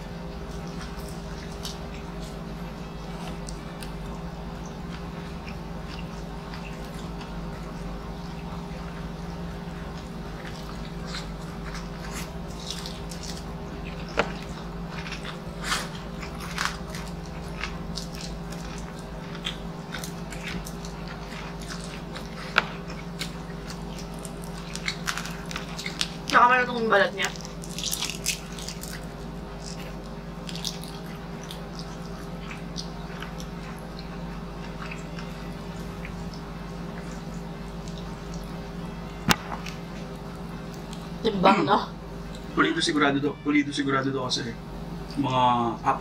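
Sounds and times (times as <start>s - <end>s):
crunches of fried skin: 0.0s - 41.2s
chewing crispy fried pork: 0.0s - 42.6s
steady low hum: 0.0s - 46.0s.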